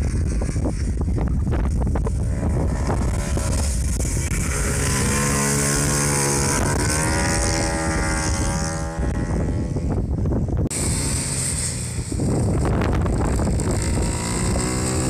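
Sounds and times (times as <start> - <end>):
minibike engine passing at speed: 0.0 - 15.0.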